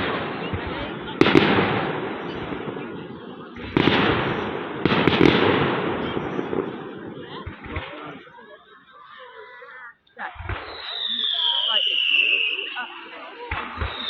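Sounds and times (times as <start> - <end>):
firework bangs: 0.0 - 8.8, 10.2 - 14.0
firework crackling: 0.0 - 14.0.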